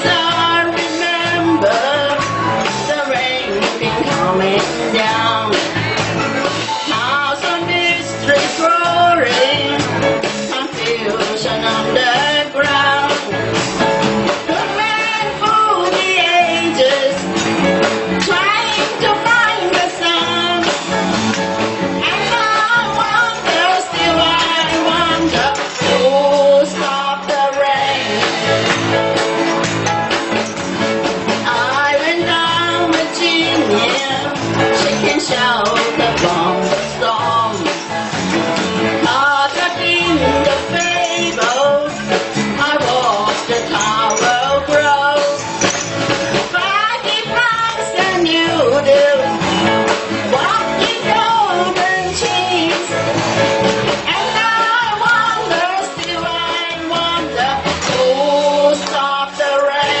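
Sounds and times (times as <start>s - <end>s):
rock song with singing: 0.0s - 60.0s.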